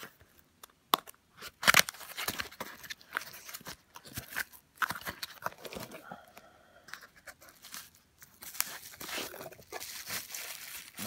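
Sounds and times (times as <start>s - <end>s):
packing material rustling and crinkling: 1.4s - 6.1s, 6.9s - 11.0s.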